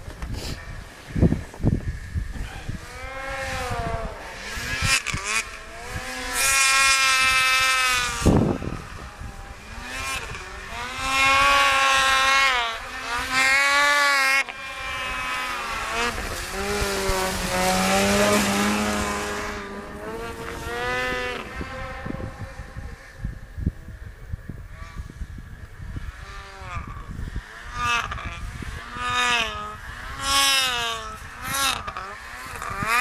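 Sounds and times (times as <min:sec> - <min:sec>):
snowmobile engines revving: 0:00.0 - 0:33.0.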